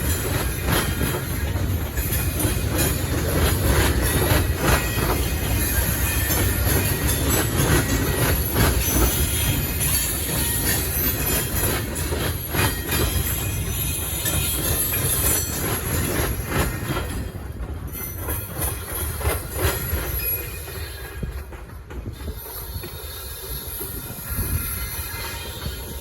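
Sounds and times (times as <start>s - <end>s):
train rumble: 0.0s - 26.0s
wheels clicking over rail joints: 0.0s - 26.0s.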